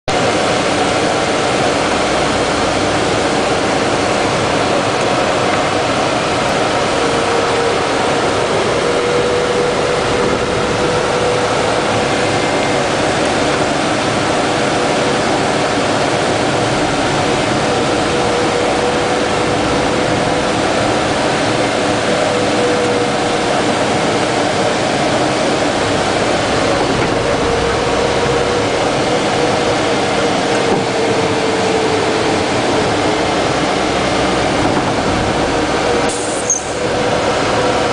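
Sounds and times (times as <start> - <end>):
steady whine: 0.1 - 37.9
vehicle engine and road noise: 0.1 - 37.9.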